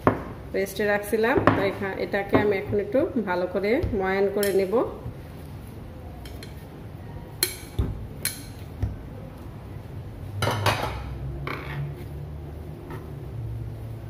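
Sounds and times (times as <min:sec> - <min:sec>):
dough being kneaded: 0:00.0 - 0:14.0.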